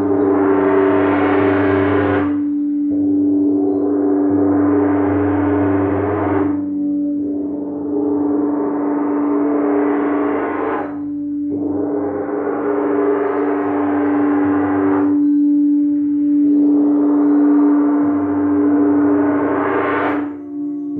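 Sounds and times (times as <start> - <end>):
shimmering metallic wash: 0.0 - 20.9
singing bowl steady hum: 0.0 - 20.9.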